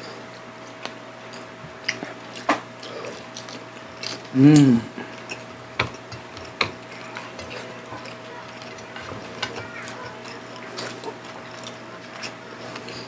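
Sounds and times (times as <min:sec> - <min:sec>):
smacking and chewing: 0:00.3 - 0:13.0.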